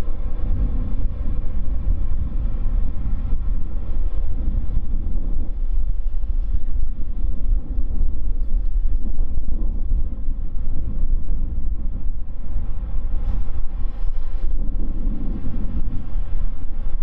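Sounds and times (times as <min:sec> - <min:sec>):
jet engines low rumble: 0:00.0 - 0:17.0
wind buffeting microphone: 0:00.0 - 0:17.0.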